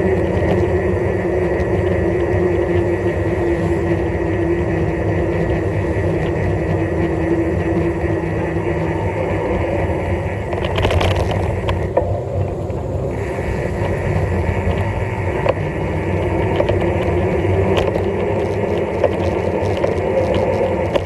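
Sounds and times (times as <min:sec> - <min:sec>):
road and wind noise: 0:00.0 - 0:21.0.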